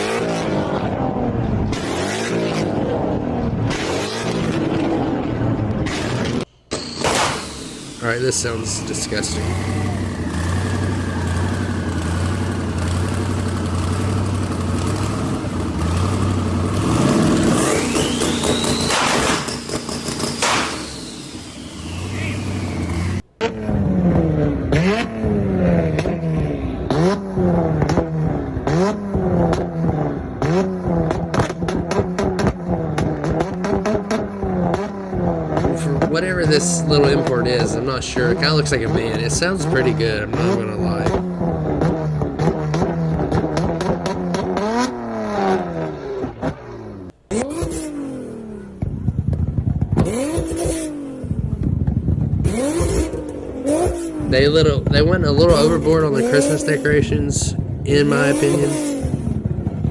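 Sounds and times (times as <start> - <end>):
car engine revving: 0.0 - 59.9
exhaust popping and crackling: 0.0 - 59.9.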